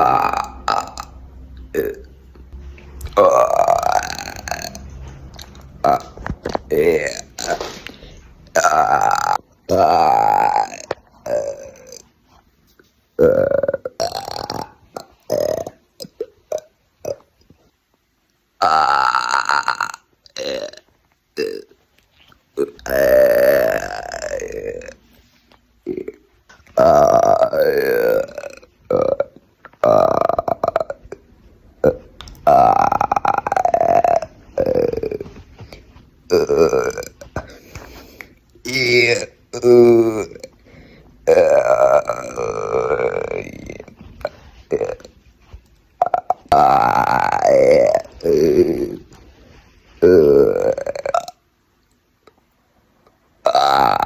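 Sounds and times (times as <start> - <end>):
person burping: 0.0 - 2.3, 3.0 - 12.2, 13.2 - 17.4, 18.6 - 21.8, 22.6 - 25.1, 25.8 - 49.2, 50.0 - 51.4, 53.4 - 54.0.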